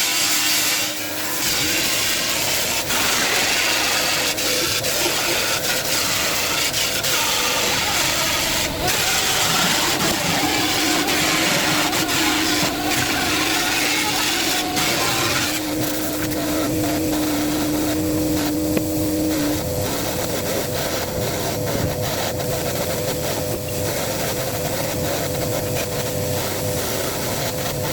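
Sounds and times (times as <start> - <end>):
steady hum: 0.9 - 27.9
motor-driven machine running: 1.3 - 27.9.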